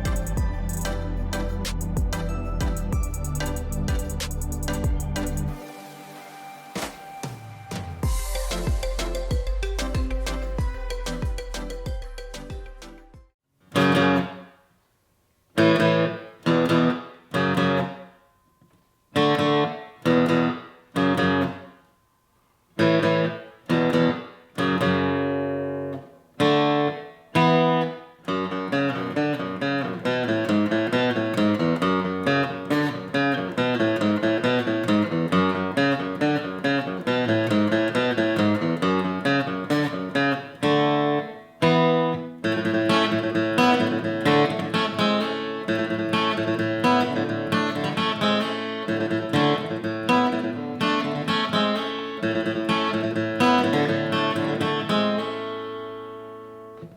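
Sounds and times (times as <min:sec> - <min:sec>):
guitar picked notes: 0:00.0 - 0:14.6, 0:15.6 - 0:22.1, 0:22.8 - 0:56.9
guitar strummed chords: 0:00.0 - 0:14.6, 0:22.8 - 0:56.9.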